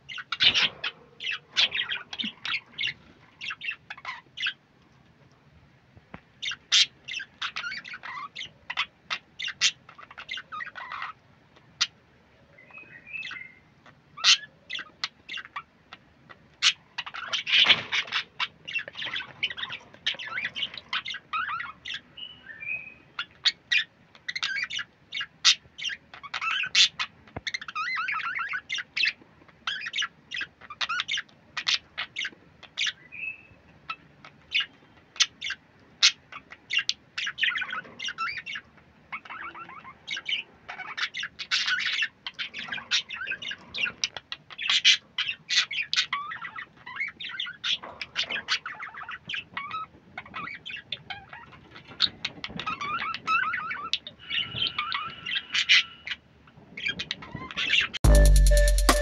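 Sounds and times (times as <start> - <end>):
budgerigars chirping: 0.0 - 4.6, 6.4 - 11.2, 11.8 - 12.0, 12.6 - 58.6.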